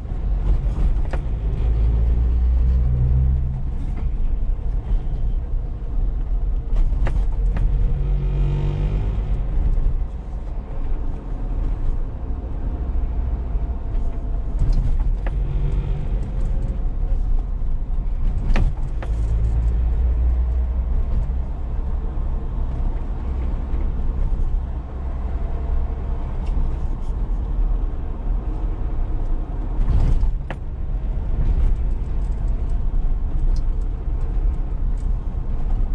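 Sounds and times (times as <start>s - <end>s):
car engine: 0.0s - 35.9s
road rumble: 0.0s - 35.9s.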